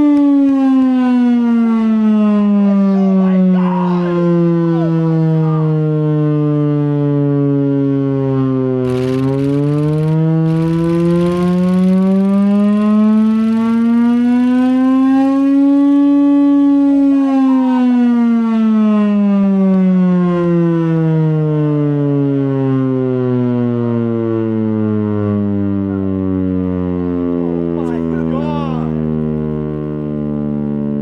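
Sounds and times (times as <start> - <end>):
air raid siren wailing: 0.0 - 31.0.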